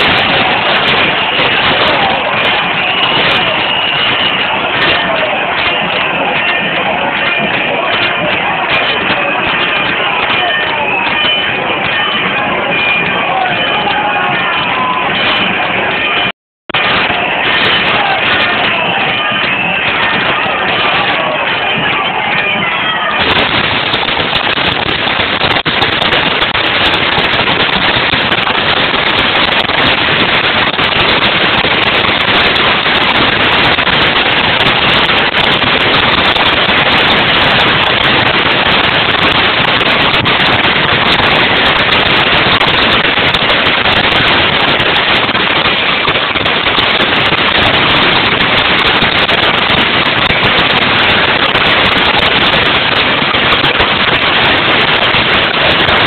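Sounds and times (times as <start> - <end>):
stadium crowd cheering and yelling: 0.0 - 56.0.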